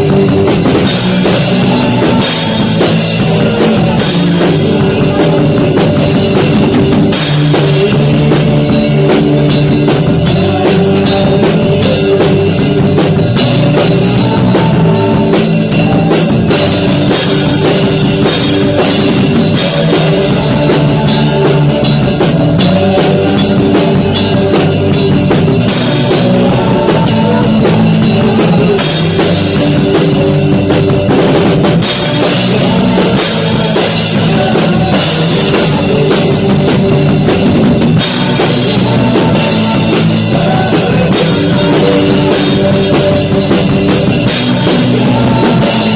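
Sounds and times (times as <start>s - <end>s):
drum kit rock beat: 0.0s - 45.9s
live band music: 0.0s - 45.9s.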